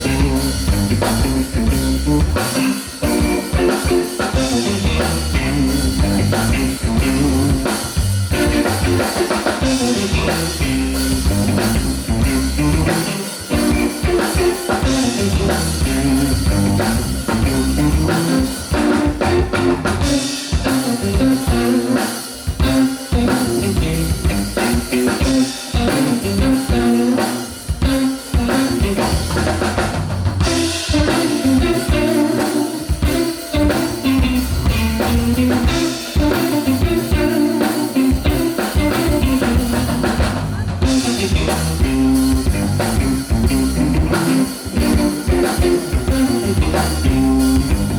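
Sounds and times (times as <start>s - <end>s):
drum kit beat: 0.0s - 47.9s
live band playing: 0.0s - 47.9s.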